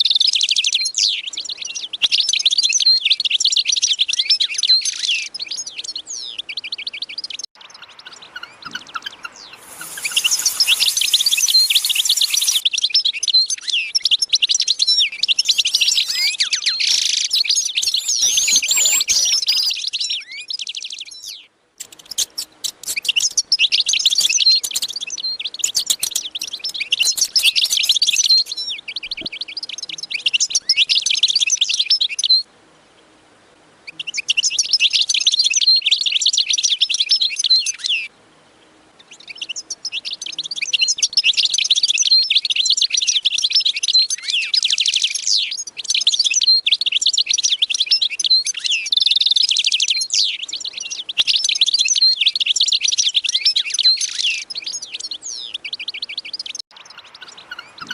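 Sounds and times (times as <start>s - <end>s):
small birds chirping: 0.0s - 32.4s, 33.8s - 57.9s.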